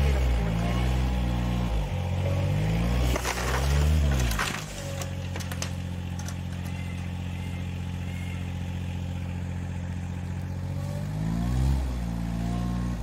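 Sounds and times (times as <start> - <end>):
engine running at low speed: 0.0 - 13.0.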